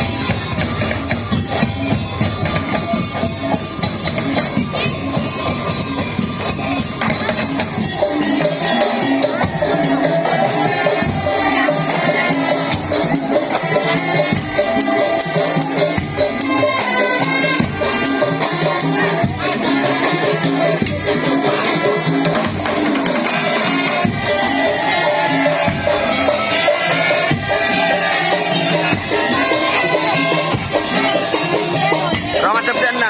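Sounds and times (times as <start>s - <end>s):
percussion ensemble playing: 0.0s - 33.0s.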